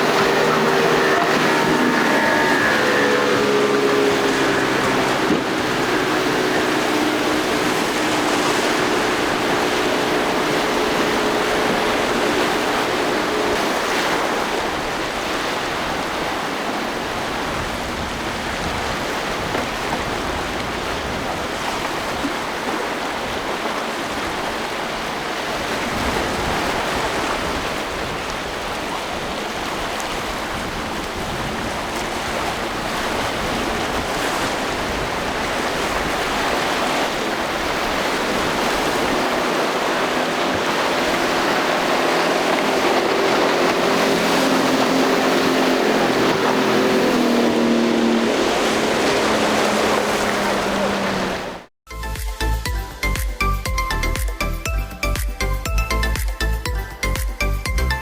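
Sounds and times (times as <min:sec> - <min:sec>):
churning water: 0:00.0 - 0:51.7
surf rushing: 0:00.0 - 0:51.7
boat engine humming: 0:00.0 - 0:58.0.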